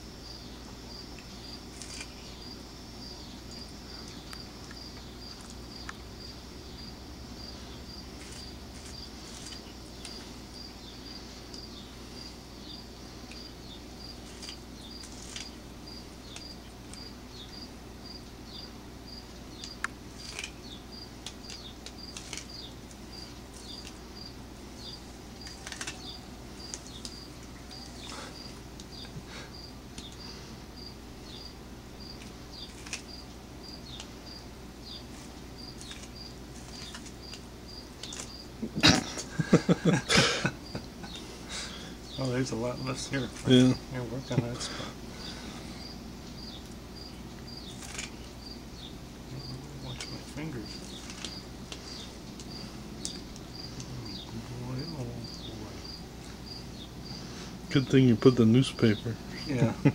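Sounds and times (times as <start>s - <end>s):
cricket chirping: 0.0s - 59.9s
cat chewing corn: 0.9s - 42.0s, 44.4s - 48.6s, 49.4s - 54.5s.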